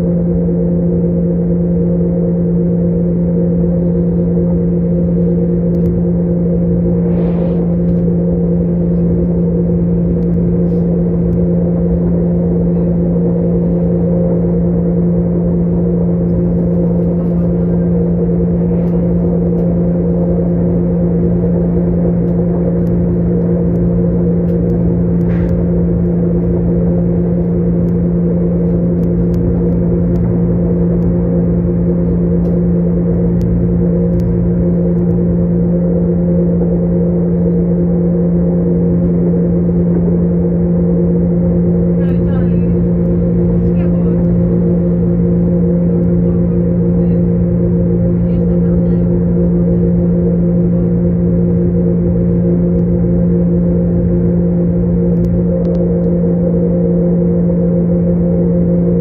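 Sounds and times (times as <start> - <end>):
high hum tones: 0.0 - 59.0
rumbling track noise: 0.0 - 59.0
train drone inside carriage: 0.0 - 59.0.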